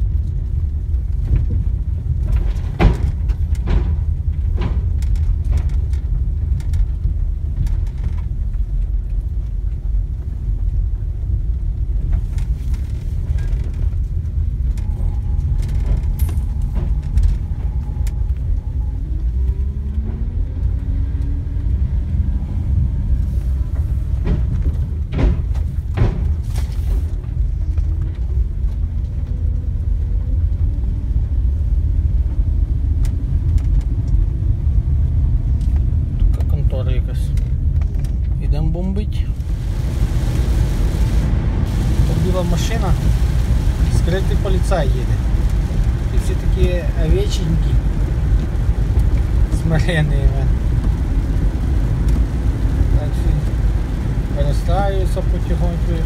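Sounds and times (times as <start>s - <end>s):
vehicle rumble from inside cab: 0.0s - 56.0s.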